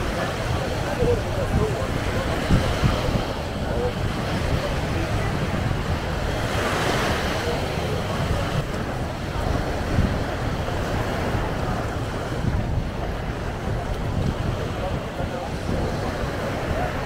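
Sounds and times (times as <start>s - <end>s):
small waves washing onto shore: 0.0s - 17.0s
wind buffeting microphone: 0.0s - 17.0s.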